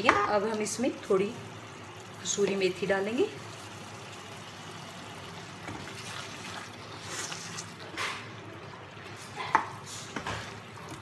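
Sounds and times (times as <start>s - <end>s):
gravy simmering: 0.6s - 11.0s.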